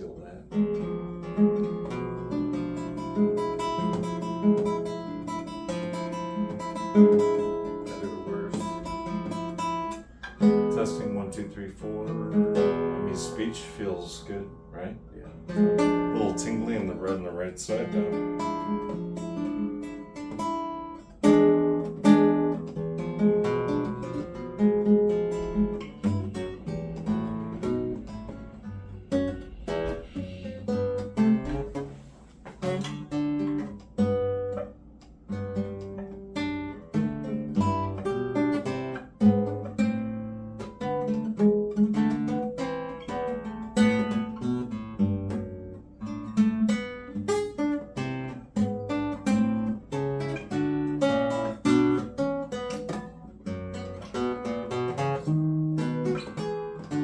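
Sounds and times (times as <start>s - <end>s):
acoustic guitar picking: 0.0s - 57.0s.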